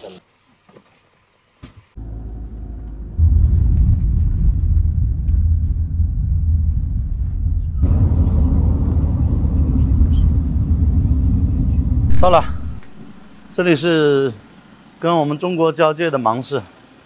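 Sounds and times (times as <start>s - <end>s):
engine and road rumble: 0.4s - 17.0s.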